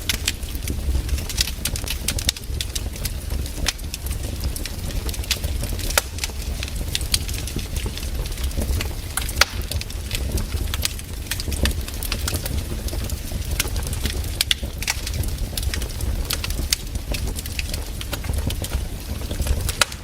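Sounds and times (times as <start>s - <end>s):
campfire crackling and popping: 0.0s - 20.0s
low rumble of fire: 0.0s - 20.0s.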